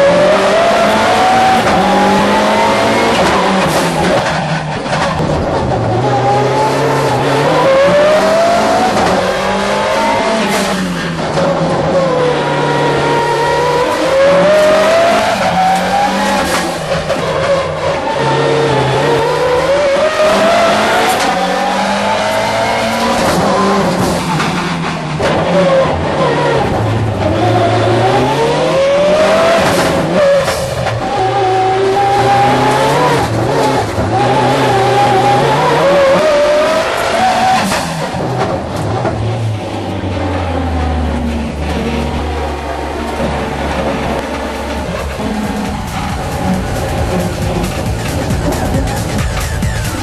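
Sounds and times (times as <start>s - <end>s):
rally car engine revving: 0.0s - 50.0s.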